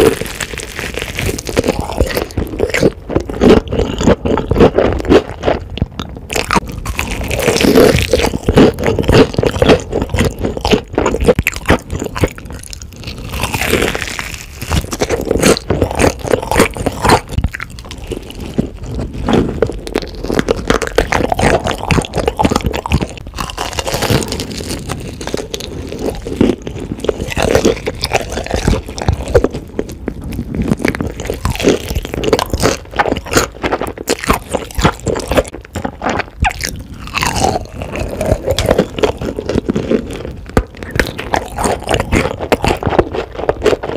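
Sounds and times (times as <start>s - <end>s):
chewing: 0.0s - 43.9s
crunching fried chicken bites: 0.0s - 43.9s.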